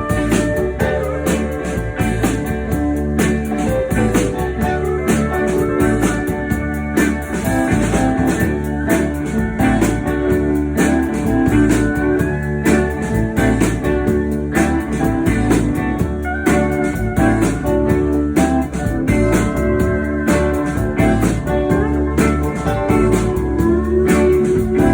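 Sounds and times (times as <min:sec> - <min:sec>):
blues band playing: 0:00.0 - 0:24.9
sliding guitar notes: 0:00.0 - 0:24.9.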